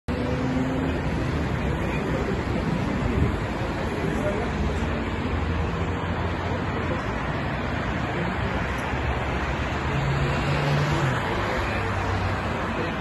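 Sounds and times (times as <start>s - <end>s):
highway traffic: 0.0s - 13.0s.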